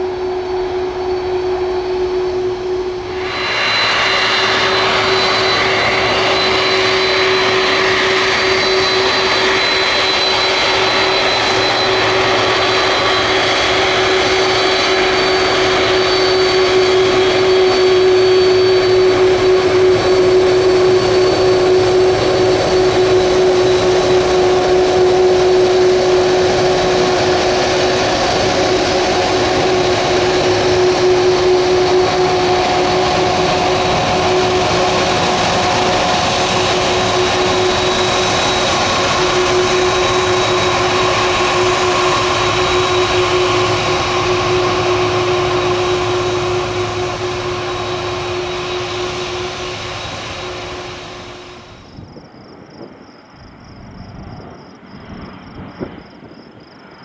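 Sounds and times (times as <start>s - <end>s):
high engine whine: 0.0s - 57.0s
jet engines taxiing: 0.0s - 57.0s.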